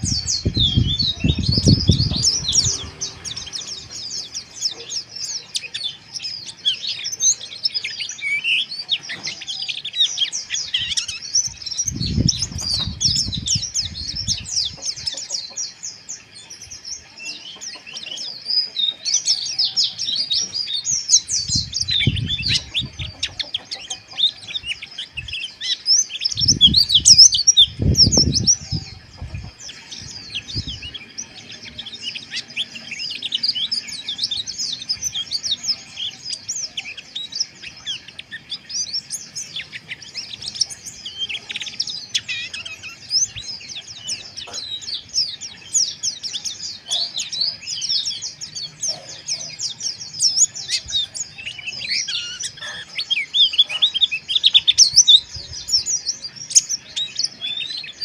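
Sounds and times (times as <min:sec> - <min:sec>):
small birds twittering chatter: 0:00.0 - 0:58.0.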